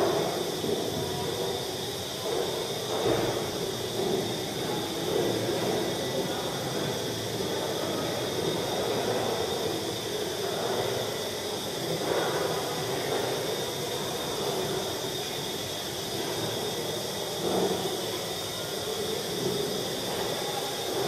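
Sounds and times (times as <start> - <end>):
steady hiss and room noise: 0.0 - 21.0.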